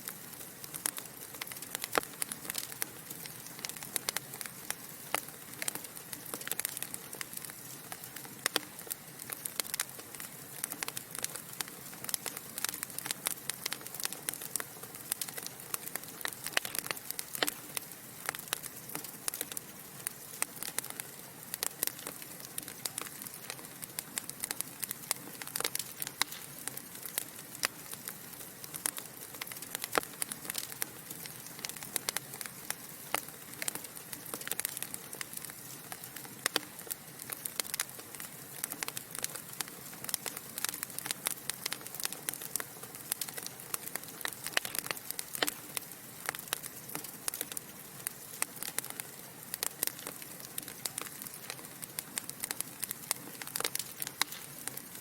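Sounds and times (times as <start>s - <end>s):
fire crackling and popping: 0.0s - 55.0s
wood fire hissing: 0.0s - 55.0s.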